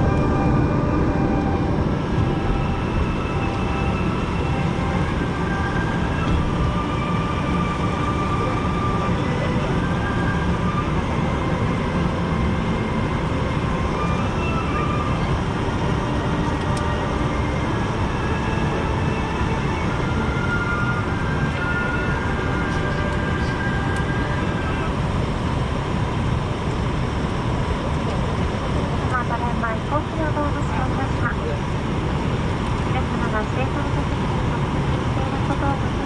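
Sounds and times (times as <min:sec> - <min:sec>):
aircraft cabin hum and rush: 0:00.0 - 0:36.0.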